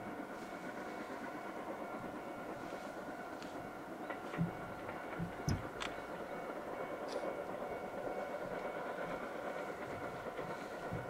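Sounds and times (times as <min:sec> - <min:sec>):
steam locomotive rumble: 0:00.0 - 0:11.0.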